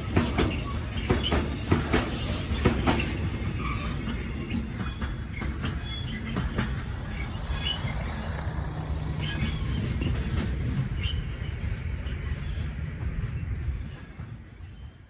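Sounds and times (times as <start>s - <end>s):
locomotive and wagons rumbling: 0.0s - 15.0s
wheel squeals and clicks: 0.2s - 12.6s.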